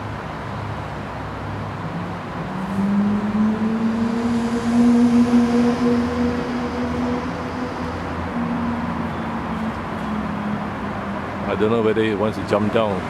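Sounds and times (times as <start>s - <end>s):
outdoor traffic noise: 0.0s - 13.0s.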